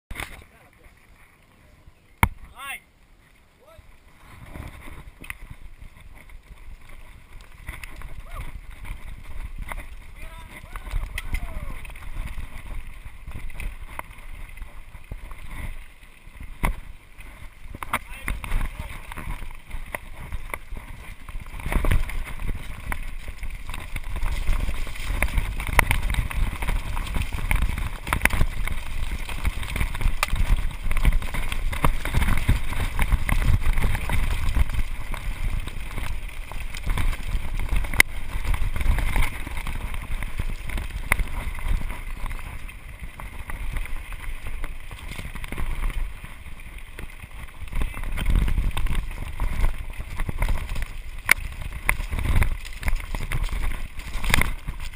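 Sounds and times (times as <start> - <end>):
wind on microphone: 3.6 - 54.9
bike knocking and rattling: 4.2 - 54.9.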